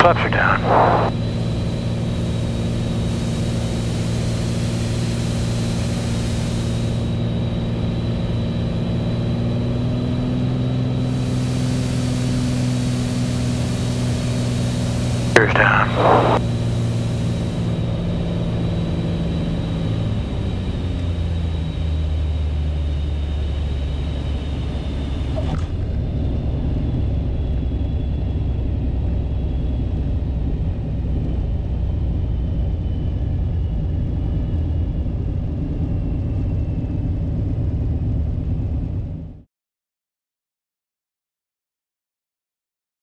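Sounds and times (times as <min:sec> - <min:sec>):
piston aircraft engine and propeller: 0:00.0 - 0:39.4.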